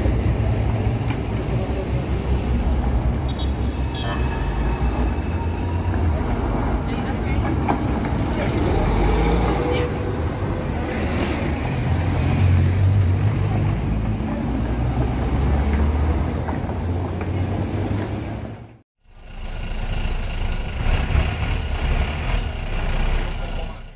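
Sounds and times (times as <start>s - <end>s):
traffic engine rumble: 0.0s - 23.9s.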